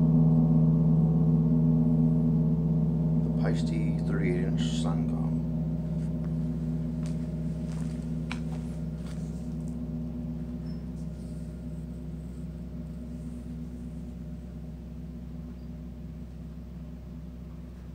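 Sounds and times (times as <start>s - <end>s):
gong ringing: 0.0s - 17.9s.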